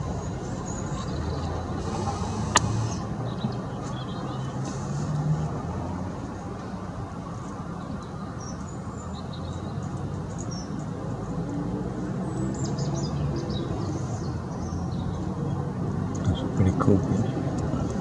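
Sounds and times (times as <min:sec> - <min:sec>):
small birds chirping: 0:00.0 - 0:05.0, 0:07.4 - 0:18.0
distant traffic hum: 0:00.0 - 0:18.0.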